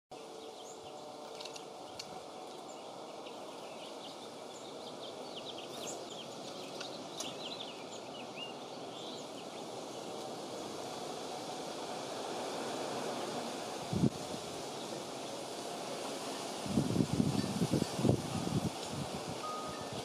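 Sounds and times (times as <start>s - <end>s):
songbirds chirping: 0.1s - 20.0s
wind: 0.1s - 20.0s.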